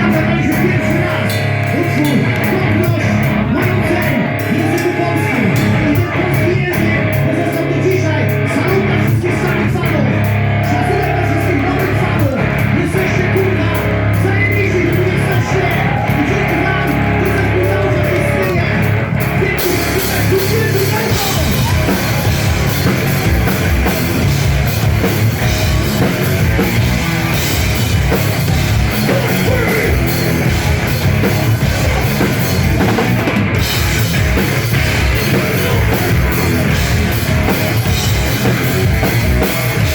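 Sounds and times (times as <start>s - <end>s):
live metal band playing: 0.0s - 39.9s.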